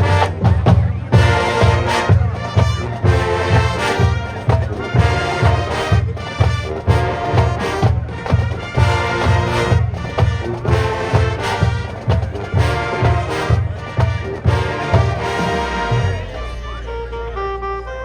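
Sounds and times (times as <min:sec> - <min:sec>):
pulsing drum beat: 0:00.0 - 0:17.4
marching band playing: 0:00.0 - 0:18.0.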